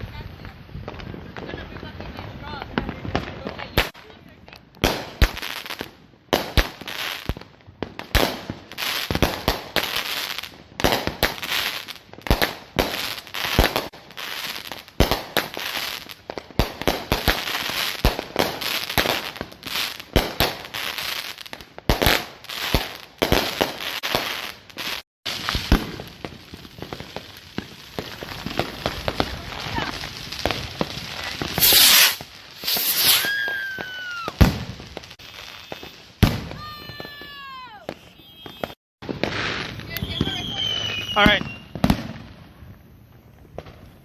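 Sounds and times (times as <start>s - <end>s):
firework crackling: 0.0s - 44.0s
firework bangs: 0.1s - 44.0s.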